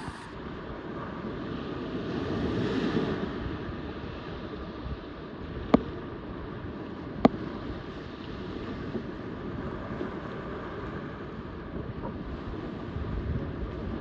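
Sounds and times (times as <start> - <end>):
boat underway: 0.0 - 14.0
wind buffeting microphone: 0.0 - 14.0.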